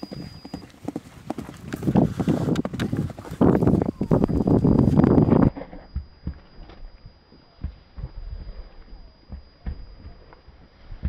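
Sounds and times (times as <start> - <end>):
horse hooves thudding on grass: 0.0 - 11.0.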